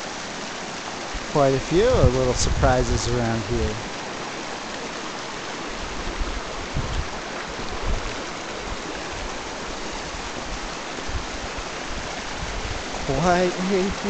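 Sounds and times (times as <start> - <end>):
creek water babbling over stones: 0.0 - 14.0.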